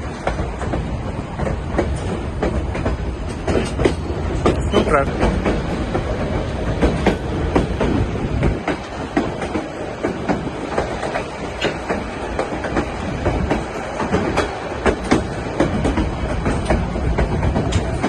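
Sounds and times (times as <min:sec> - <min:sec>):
train rumbling on track: 0:00.0 - 0:18.0
train wheels clicking and clattering: 0:00.0 - 0:18.0.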